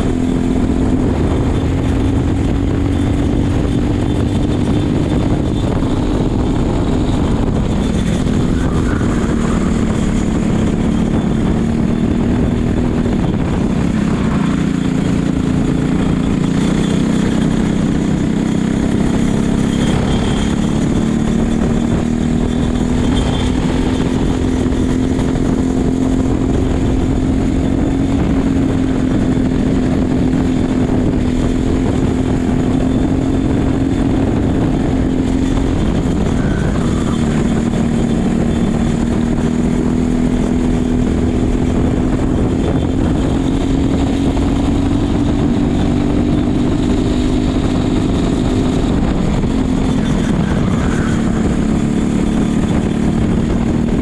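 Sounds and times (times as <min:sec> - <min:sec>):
racing kart engine: 0:00.0 - 0:54.0
wind rushing across microphone: 0:00.0 - 0:54.0.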